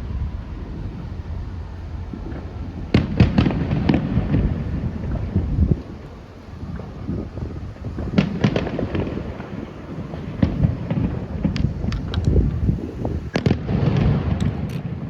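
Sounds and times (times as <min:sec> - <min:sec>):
low rumble: 0:00.0 - 0:14.6
fireworks bangs and crackles: 0:00.0 - 0:15.0.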